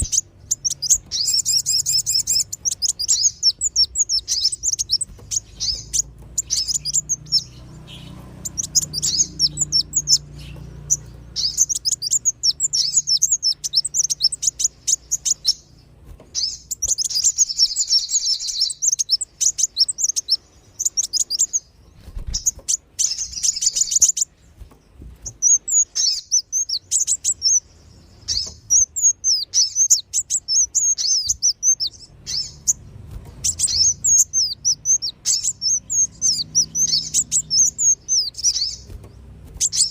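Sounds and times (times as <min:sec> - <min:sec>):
small birds chirping rapidly: 0:00.0 - 0:39.9.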